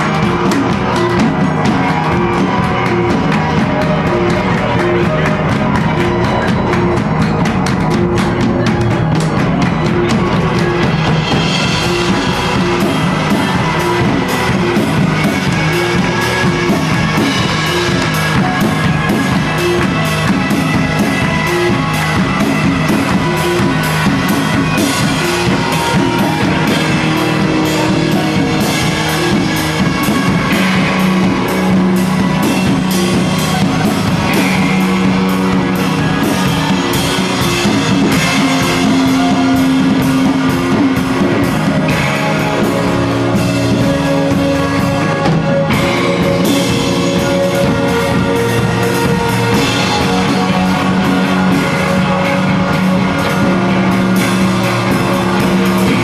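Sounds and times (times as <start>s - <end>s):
drum kit beat: 0.0s - 56.0s
live rock band playing: 0.0s - 56.0s.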